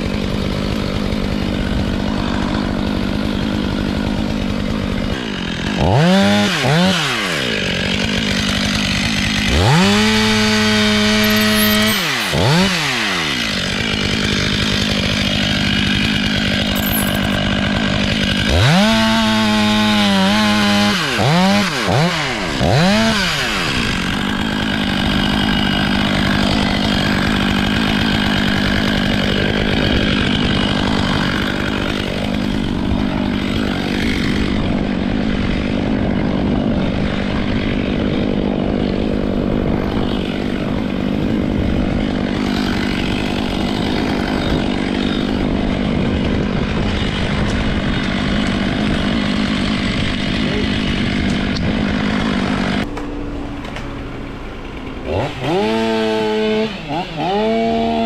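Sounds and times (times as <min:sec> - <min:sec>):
chainsaw revving and cutting: 0:00.0 - 0:53.0, 0:54.3 - 0:58.0.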